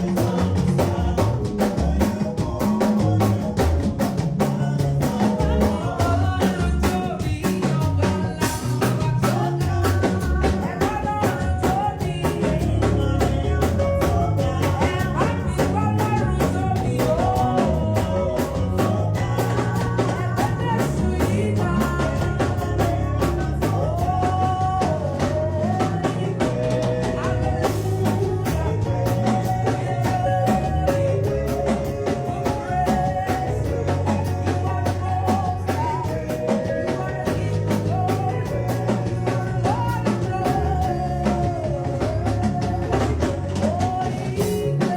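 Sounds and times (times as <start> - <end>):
bass line: 0.0 - 44.9
drum kit beat: 0.0 - 44.9
person singing: 0.0 - 44.9.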